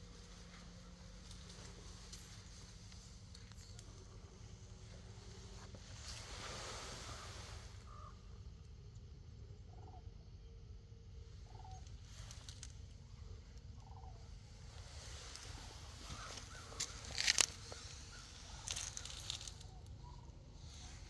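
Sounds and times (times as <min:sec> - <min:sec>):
ravens calling: 0:00.0 - 0:21.0
steady low rumble: 0:00.0 - 0:21.0.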